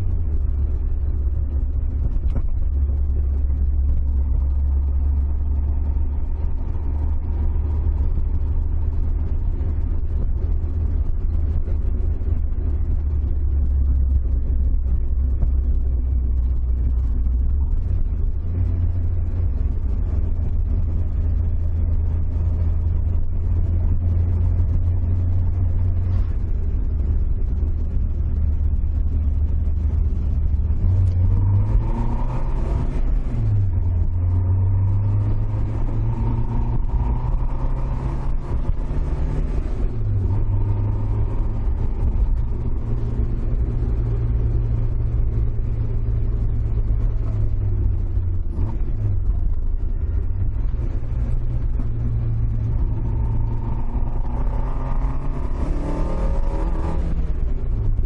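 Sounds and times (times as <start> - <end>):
car engine droning: 0.0 - 58.0
road noise: 0.0 - 58.0.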